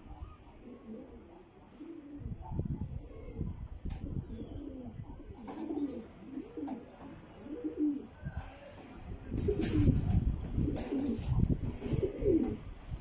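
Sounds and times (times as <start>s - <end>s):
pigeons cooing: 0.0s - 8.7s, 9.3s - 13.0s.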